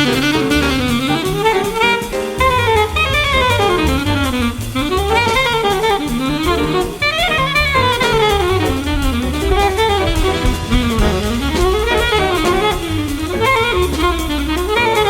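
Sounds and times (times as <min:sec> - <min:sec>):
bass: 0:00.0 - 0:15.0
drums: 0:00.0 - 0:15.0
saxophone fast runs: 0:00.0 - 0:15.0.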